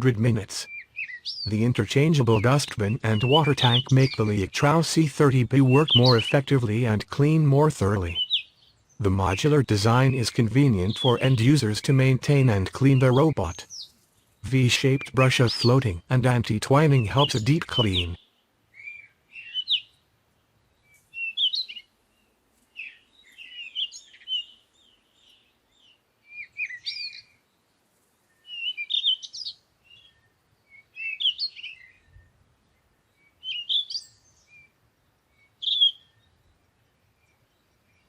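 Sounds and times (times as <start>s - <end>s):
songbird chirping: 0.0s - 38.0s.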